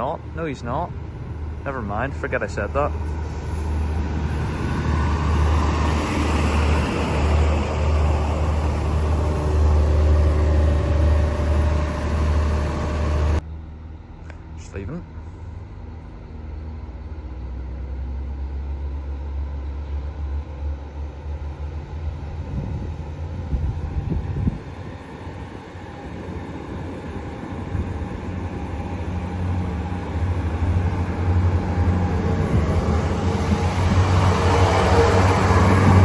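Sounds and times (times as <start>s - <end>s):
train engines droning: 0.0s - 36.0s.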